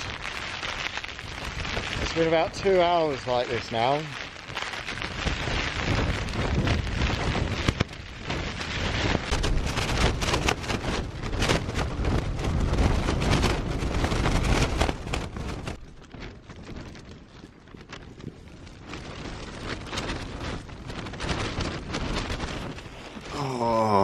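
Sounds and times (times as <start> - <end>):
rain on tent fabric: 0.0 - 24.0
wind buffeting microphone: 0.0 - 24.0.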